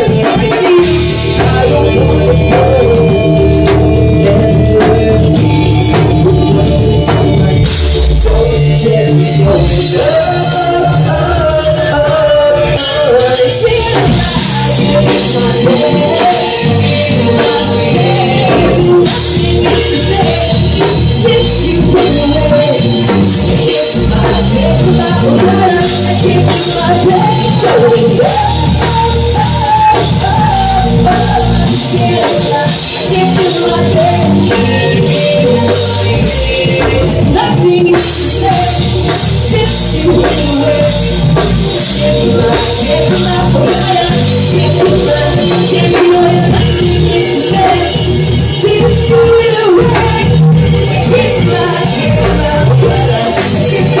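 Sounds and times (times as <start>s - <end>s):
drum kit: 0.0s - 54.0s
live band playing: 0.0s - 54.0s
person singing: 0.0s - 54.0s.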